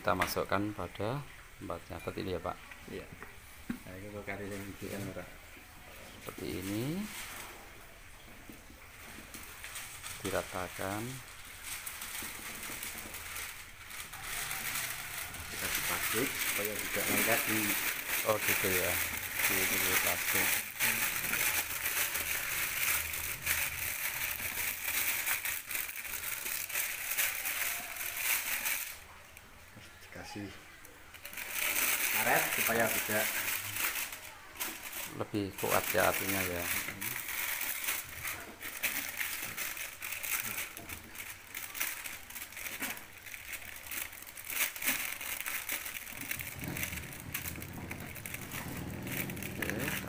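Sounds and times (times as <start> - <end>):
plastic sheet crinkling: 3.9 - 29.4, 30.9 - 50.0.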